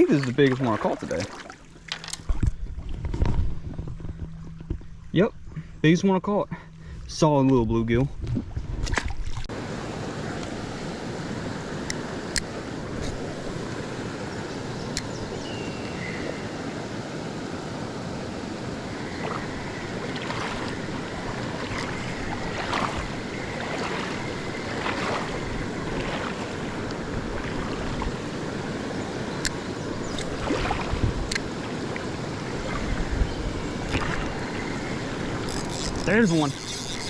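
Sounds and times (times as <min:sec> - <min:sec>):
creek water flowing: 0:00.0 - 0:07.6, 0:09.0 - 0:37.0.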